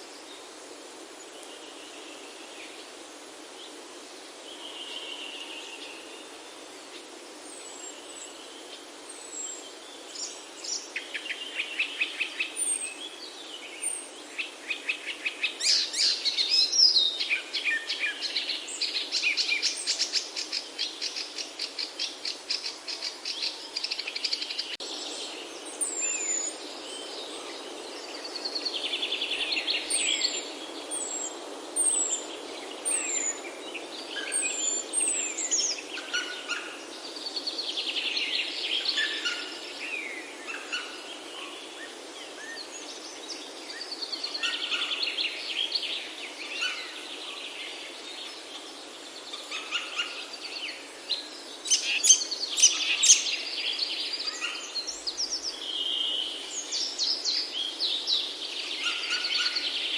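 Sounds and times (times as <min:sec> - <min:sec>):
songbirds singing and calling: 0:00.0 - 0:59.9
steady background hiss: 0:00.0 - 0:59.9.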